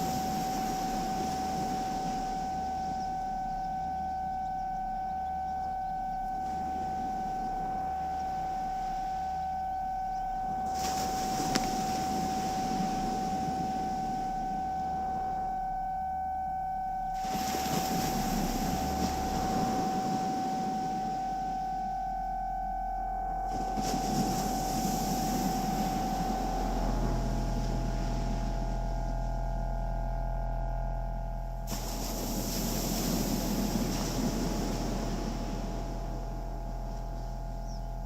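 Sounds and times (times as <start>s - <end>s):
synthesizer hiss: 0.0s - 5.6s, 6.2s - 15.9s, 17.0s - 38.0s
low synthesizer pulse: 0.0s - 38.0s
synthesizer held tone: 0.0s - 38.0s.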